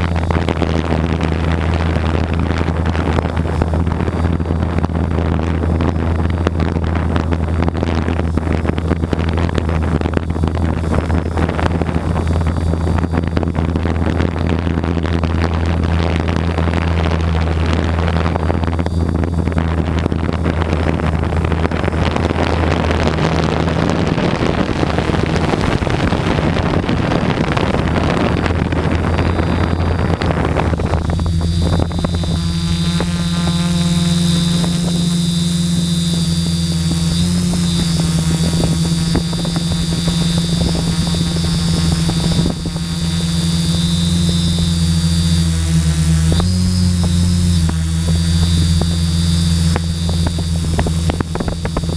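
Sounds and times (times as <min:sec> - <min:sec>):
quadcopter motors humming and whining: 0:00.0 - 0:51.9
rushing air noise: 0:00.0 - 0:51.9.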